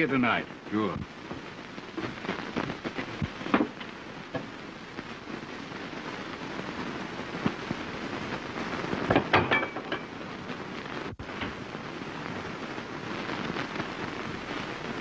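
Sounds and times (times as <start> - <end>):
film soundtrack hiss and crackle: 0.0 - 15.0.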